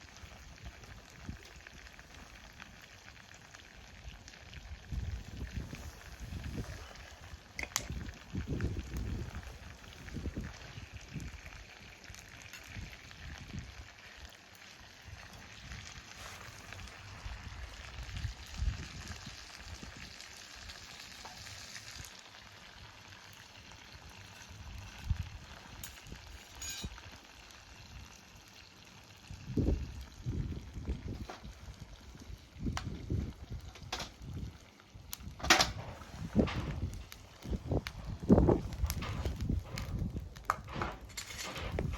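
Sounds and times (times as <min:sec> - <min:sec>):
wood fire hissing and crackling: 0:00.0 - 0:41.9.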